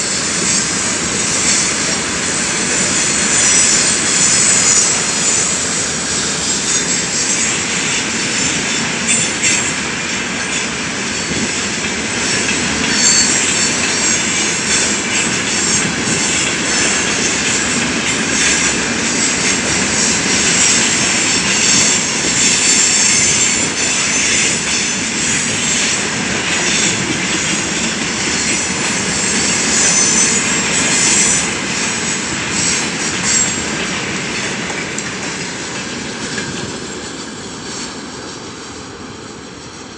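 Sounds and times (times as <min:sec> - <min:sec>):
freight train wheels on rail: 0:00.0 - 0:39.9
high wheel squeals: 0:00.1 - 0:34.6.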